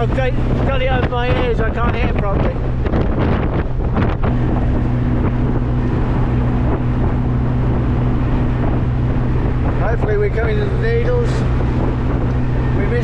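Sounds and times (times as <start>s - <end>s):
car engine drone: 0.0s - 13.0s
road and wind rush: 0.0s - 13.0s.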